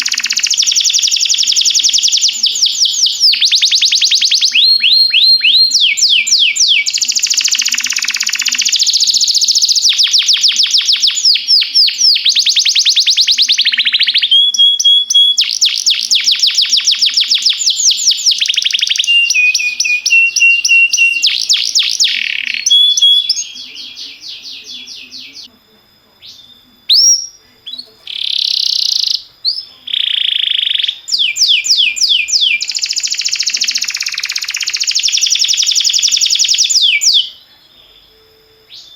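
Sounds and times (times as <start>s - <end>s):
canary singing trills: 0.0s - 25.6s, 26.2s - 38.9s.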